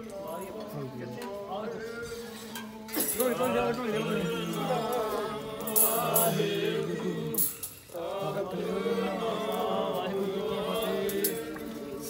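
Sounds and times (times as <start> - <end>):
voices chanting a religious song: 0.0 - 12.0.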